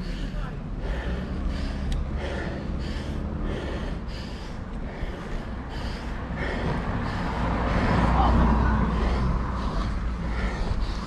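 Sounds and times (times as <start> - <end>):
person panting hard: 0.0 - 11.0.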